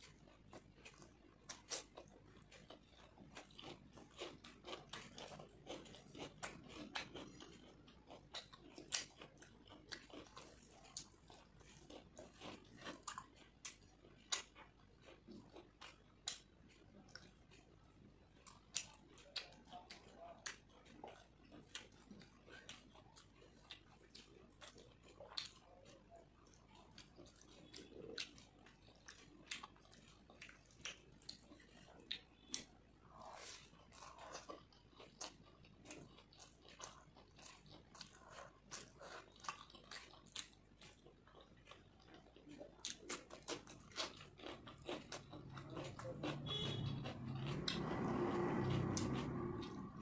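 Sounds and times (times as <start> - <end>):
close-up chewing: 0.0 - 50.0.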